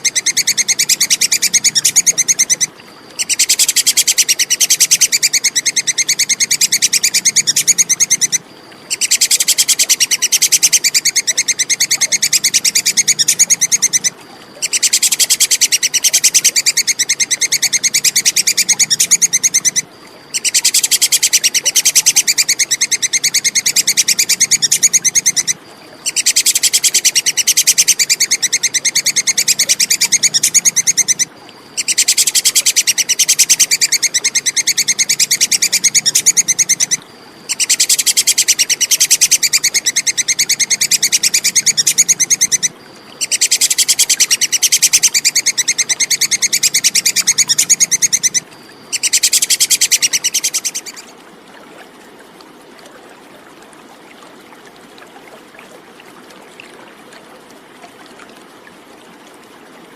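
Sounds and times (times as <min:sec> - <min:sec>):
squirrel chattering call: 0:00.0 - 0:51.1.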